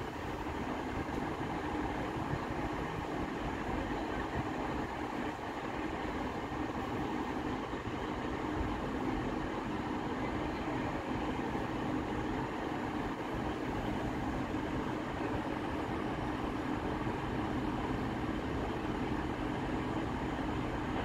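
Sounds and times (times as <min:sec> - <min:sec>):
diesel train engines idling: 0:00.0 - 0:21.0.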